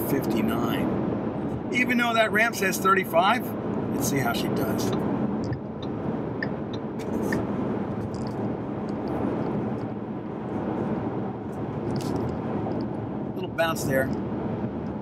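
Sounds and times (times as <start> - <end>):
low engine drone: 0.0 - 15.0
tyre and road noise: 0.0 - 15.0.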